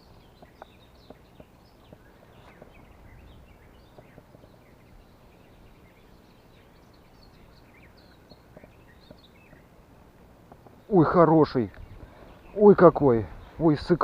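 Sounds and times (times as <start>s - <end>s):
birds chirping and trilling: 0.0s - 14.0s
low outdoor background: 0.0s - 14.0s.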